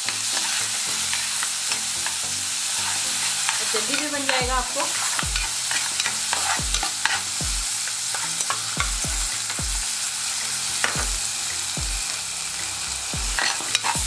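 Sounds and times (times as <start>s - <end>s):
rice sizzling in oil: 0.0s - 14.0s
spoon scraping pan: 0.3s - 14.0s.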